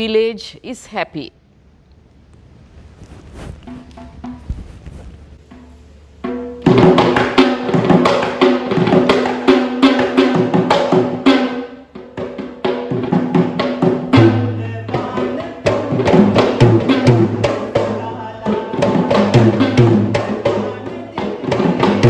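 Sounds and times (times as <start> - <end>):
fast hand-drumming: 3.2 - 22.0.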